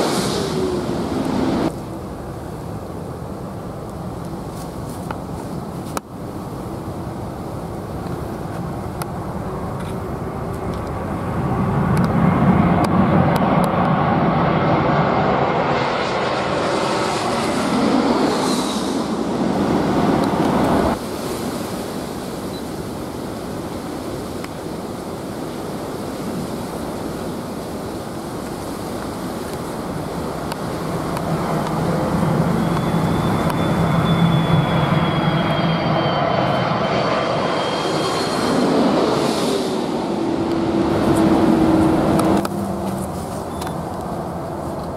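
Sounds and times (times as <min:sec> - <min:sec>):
high jet fan whine: 0:00.0 - 0:44.9
jet airliner passing overhead: 0:00.0 - 0:44.9.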